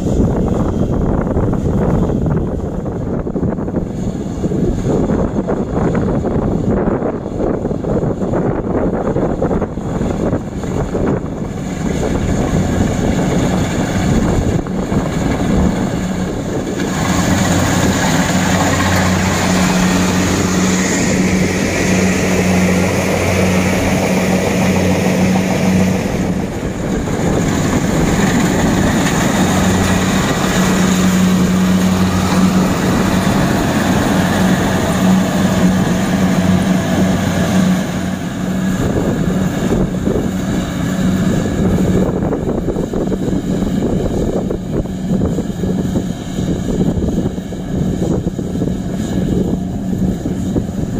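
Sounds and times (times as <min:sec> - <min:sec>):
diesel engine drone: 0:00.0 - 0:50.9
rushing machinery noise: 0:00.0 - 0:50.9.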